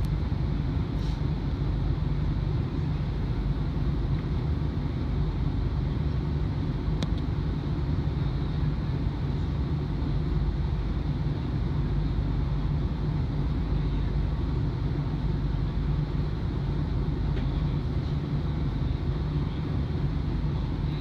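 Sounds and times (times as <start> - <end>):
tram equipment humming: 0.0 - 21.0.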